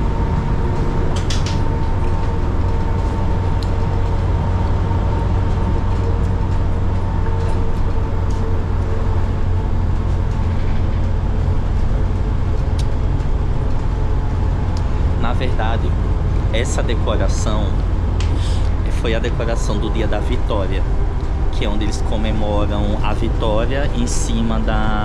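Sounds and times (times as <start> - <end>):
bus engine and road rumble: 0.0 - 25.0
faint constant whine: 0.0 - 25.0.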